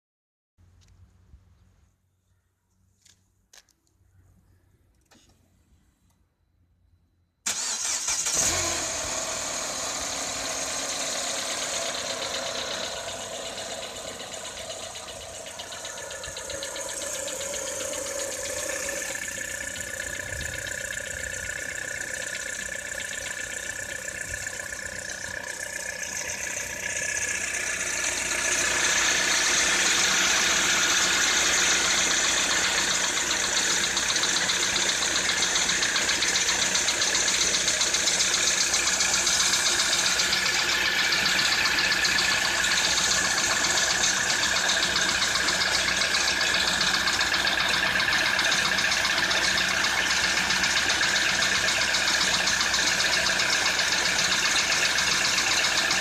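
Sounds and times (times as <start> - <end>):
car engine starting and running: 7.4 - 56.0.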